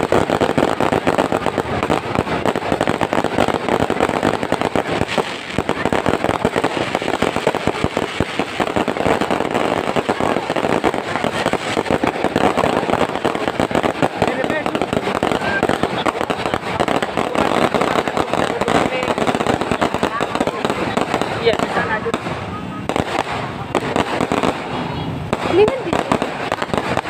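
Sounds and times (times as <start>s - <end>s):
firecrackers banging: 0.0s - 27.0s.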